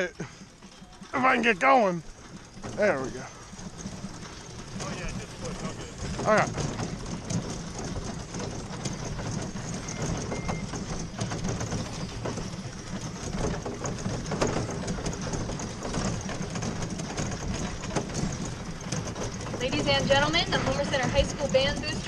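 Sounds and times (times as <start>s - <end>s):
road case rolling over grass: 0.0s - 22.0s
small clicks and knocks: 2.1s - 22.0s.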